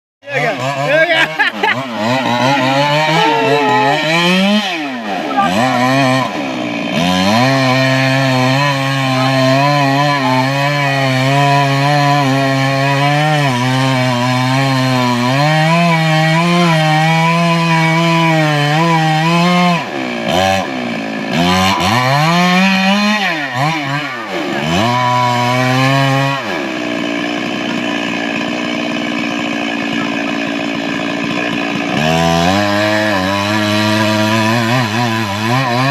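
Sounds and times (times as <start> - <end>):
chainsaw cutting wood: 0.2 - 35.9.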